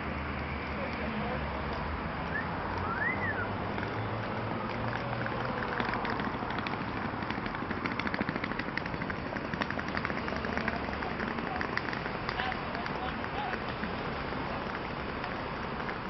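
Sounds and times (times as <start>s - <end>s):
street background rumble: 0.0s - 16.0s.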